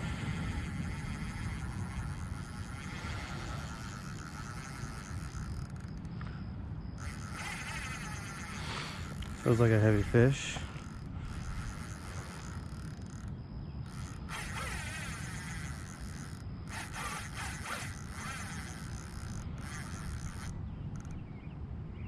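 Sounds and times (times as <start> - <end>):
fishing reel whirring: 0.0 - 21.2.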